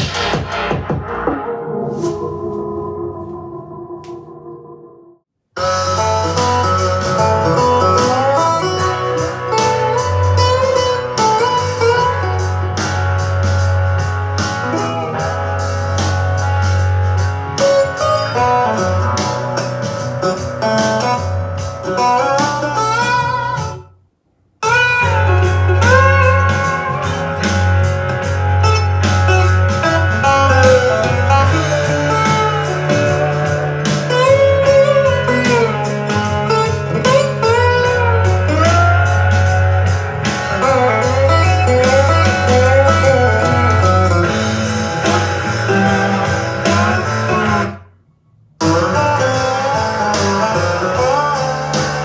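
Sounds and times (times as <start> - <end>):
guitar music through speaker: 1.2 - 4.8, 5.6 - 23.9, 24.6 - 47.9, 48.6 - 52.0.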